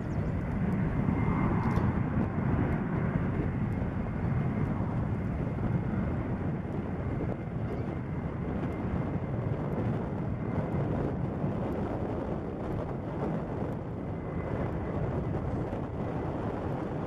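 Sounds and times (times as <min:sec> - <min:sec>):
jet engines rumbling and whining: 0:00.0 - 0:17.0
wind buffeting microphone: 0:00.0 - 0:17.0.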